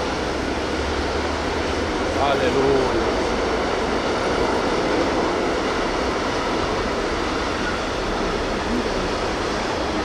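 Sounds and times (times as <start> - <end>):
freight train wheels on rails: 0.0 - 10.0.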